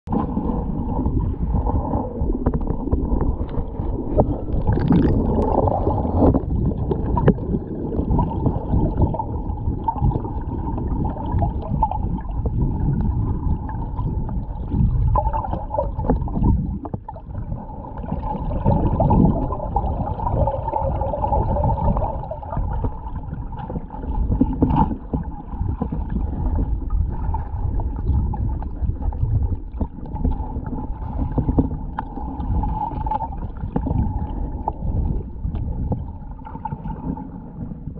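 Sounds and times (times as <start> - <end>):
underwater sloshing and gurgling: 0.1 - 37.9.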